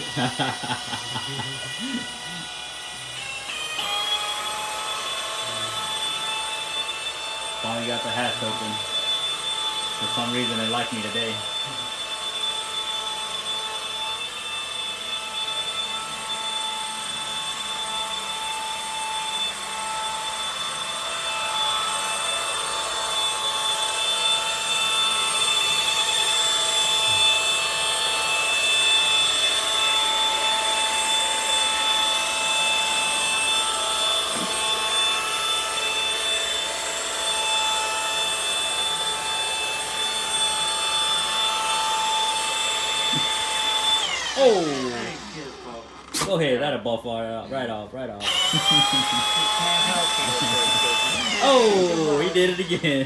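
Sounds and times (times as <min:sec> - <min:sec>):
electric polisher whining: 0:00.0 - 0:46.4, 0:48.2 - 0:53.0.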